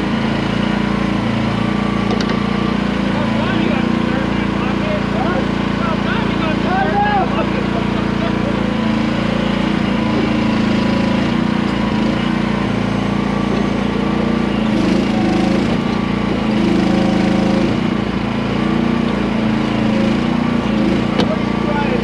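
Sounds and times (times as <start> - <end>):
small excavator engine running: 0.0 - 22.0.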